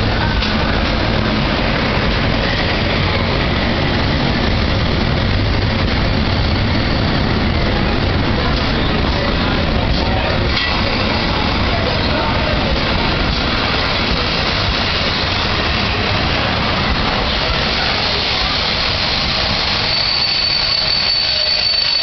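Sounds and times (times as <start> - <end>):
diesel locomotive running: 0.0 - 22.0
train wheels on rails: 0.0 - 22.0.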